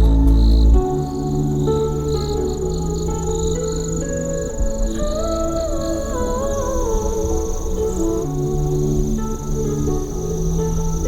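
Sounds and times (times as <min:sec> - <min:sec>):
insects chirping: 0:00.0 - 0:11.0
slow ambient music: 0:00.0 - 0:11.0.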